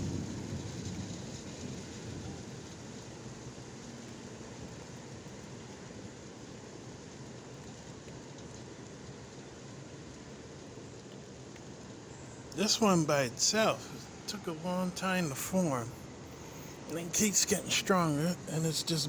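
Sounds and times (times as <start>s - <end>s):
torrential rain: 0.0s - 19.0s.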